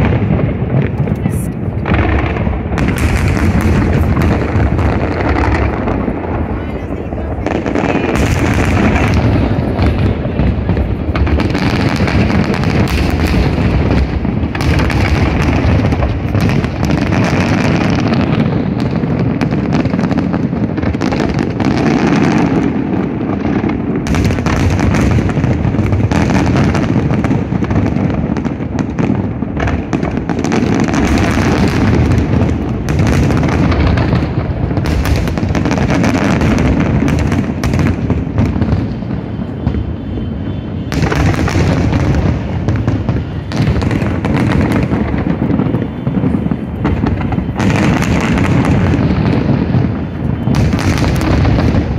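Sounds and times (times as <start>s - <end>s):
fireworks booming and crackling: 0.0s - 51.9s.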